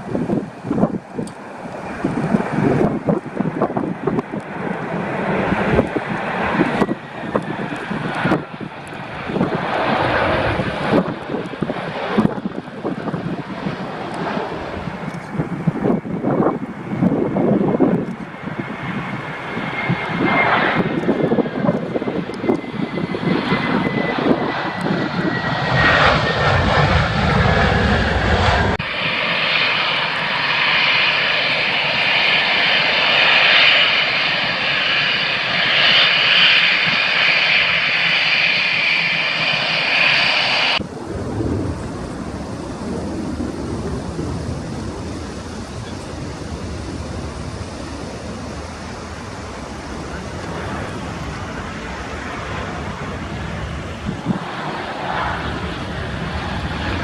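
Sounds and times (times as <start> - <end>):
falling engine whine: 0.0 - 57.0
jet engines: 0.0 - 57.0
wind rumbling on microphone: 0.0 - 57.0.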